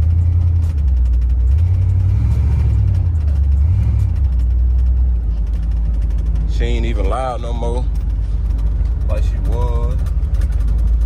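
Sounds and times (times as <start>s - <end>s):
car engine drone from inside: 0.0s - 11.0s.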